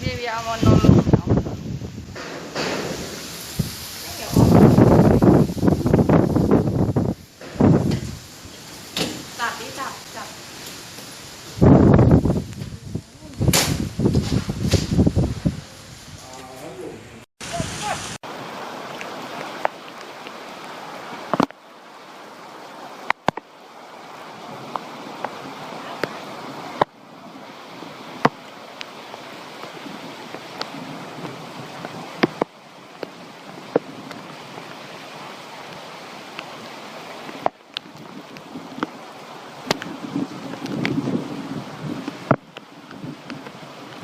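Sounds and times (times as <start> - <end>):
raindrops ticking on surfaces: 0.0 - 16.4, 17.4 - 44.0
heavy rain pouring: 0.0 - 44.0.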